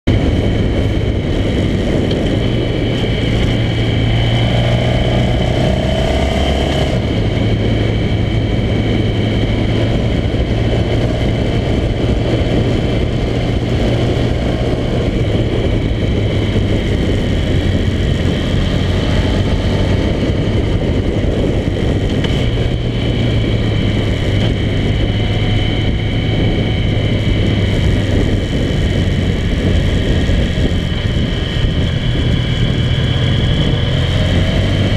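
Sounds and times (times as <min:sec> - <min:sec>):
motorcycle engine cruising: 0:00.0 - 0:34.9
road noise: 0:00.0 - 0:34.9
wind noise: 0:00.0 - 0:34.9.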